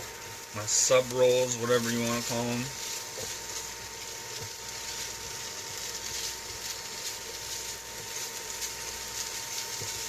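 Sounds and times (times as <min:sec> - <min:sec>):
chicken sizzling: 0:00.0 - 0:10.0.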